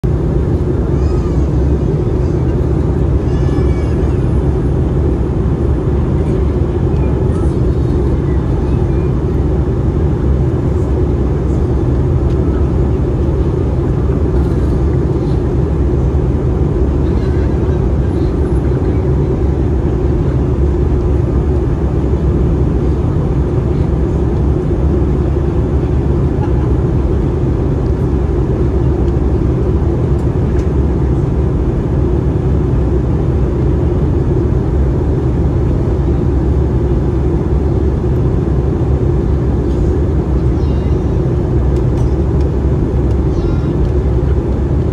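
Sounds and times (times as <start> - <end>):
airplane cabin roar: 0.0 - 44.9.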